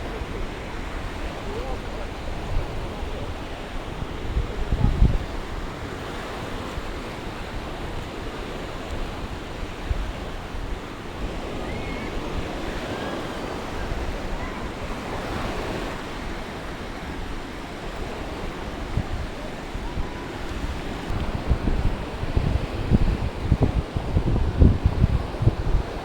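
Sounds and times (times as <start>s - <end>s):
sea waves washing onto beach: 0.0s - 26.0s
wind rumbling on microphone: 0.0s - 26.0s.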